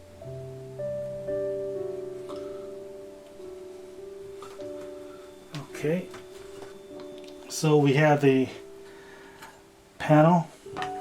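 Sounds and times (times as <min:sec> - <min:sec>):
soft held-note music: 0:00.0 - 0:11.0.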